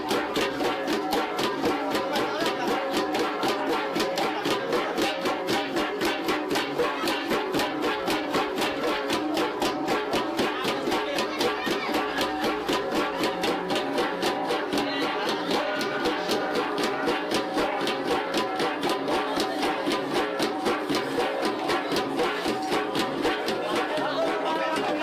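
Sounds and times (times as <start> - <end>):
bronze gongs played as ensemble: 0.0 - 25.0.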